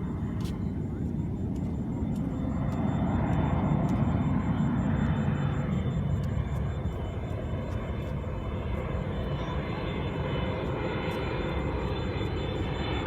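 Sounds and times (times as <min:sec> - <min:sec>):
jet engine deep rush: 0:00.0 - 0:13.0.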